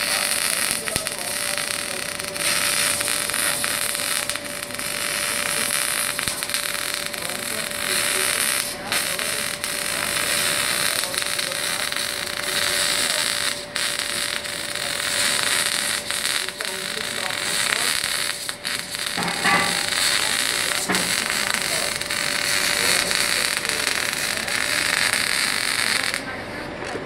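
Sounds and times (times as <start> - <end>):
welding arc crackling hiss: 0.0 - 27.0.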